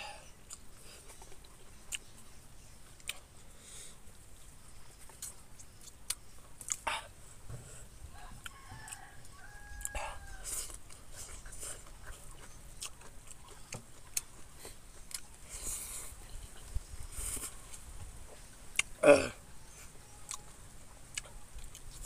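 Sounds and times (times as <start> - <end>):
man chewing with lip smacks: 0.2 - 19.0, 19.7 - 22.0.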